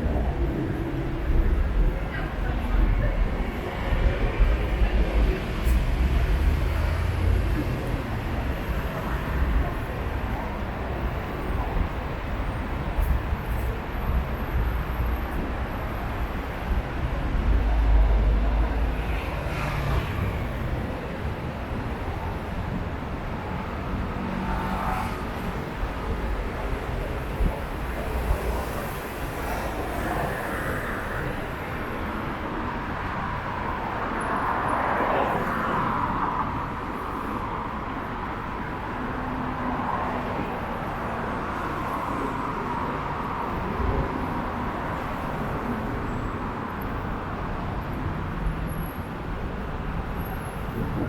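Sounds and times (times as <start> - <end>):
passing road traffic: 0.0 - 51.0.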